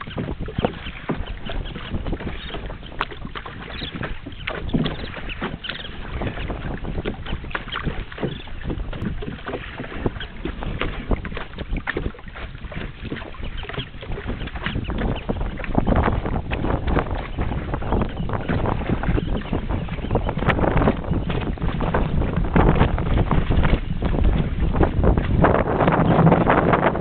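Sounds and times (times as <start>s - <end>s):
water splashing against boat hull: 0.0s - 27.0s
wind buffeting microphone: 0.0s - 27.0s.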